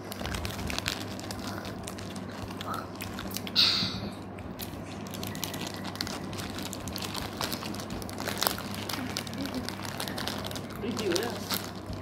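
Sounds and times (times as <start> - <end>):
crunching dry noodle snack: 0.0 - 3.6, 4.5 - 12.0
plastic packet crinkling: 0.0 - 3.6, 4.4 - 12.0
faint low hum: 0.0 - 12.0.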